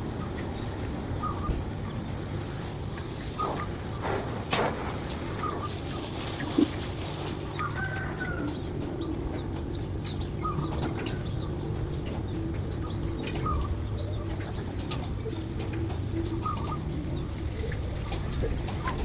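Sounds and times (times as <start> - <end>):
lower bird calls: 0.0 - 4.3, 5.0 - 19.0.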